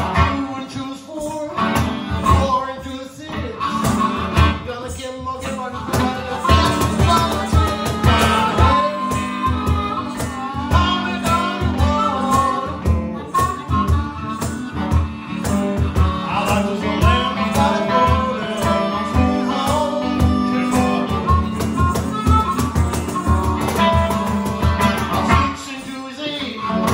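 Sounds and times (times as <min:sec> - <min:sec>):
man singing: 0:00.0 - 0:22.8, 0:23.5 - 0:26.9
electric guitar strumming: 0:00.0 - 0:26.9
percussion beat: 0:00.0 - 0:26.9.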